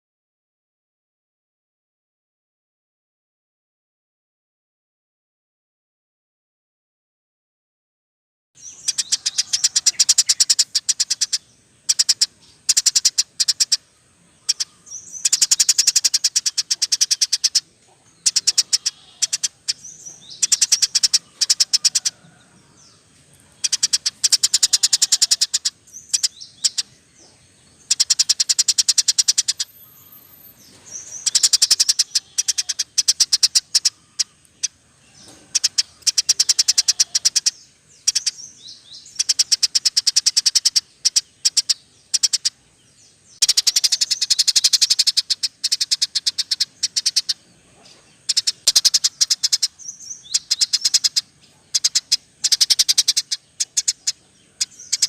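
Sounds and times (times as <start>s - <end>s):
songbirds chattering trills: 8.6s - 55.0s.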